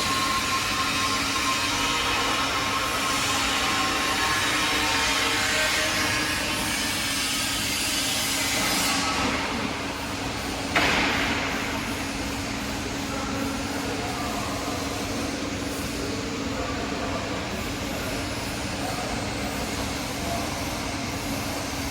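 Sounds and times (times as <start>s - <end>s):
machine mechanical hum: 0.0s - 21.9s.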